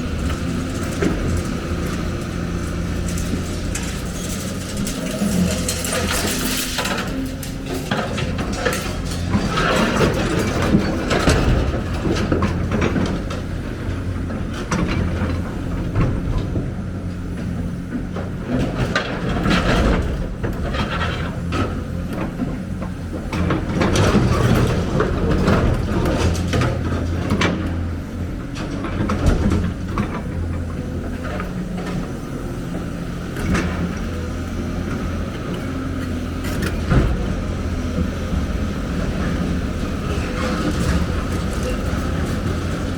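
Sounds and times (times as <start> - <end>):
excavator diesel engine running: 0.0 - 42.9
machine clanks and knocks: 0.1 - 42.9.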